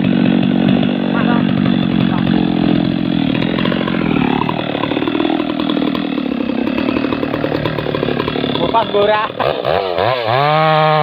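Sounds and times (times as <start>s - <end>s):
chainsaw cutting at high revs: 0.0s - 11.0s
chainsaw idling unevenly: 0.0s - 11.0s.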